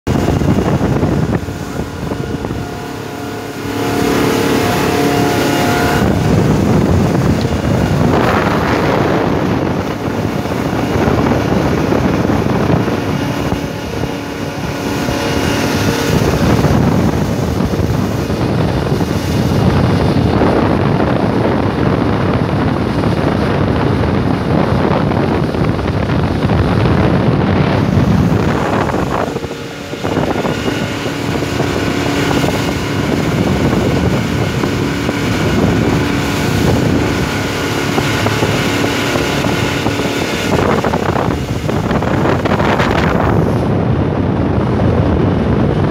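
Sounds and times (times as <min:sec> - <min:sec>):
motorboat engine drone: 0:00.0 - 0:45.9
wind buffeting microphone: 0:00.0 - 0:45.9.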